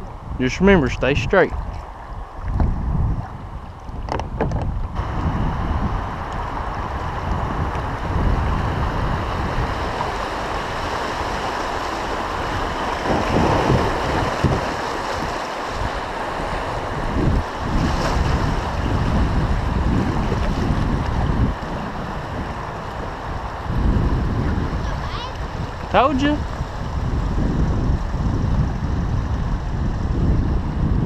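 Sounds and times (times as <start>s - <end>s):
water rushing in shallow river: 0.0s - 31.0s
wind buffeting microphone: 0.0s - 31.0s.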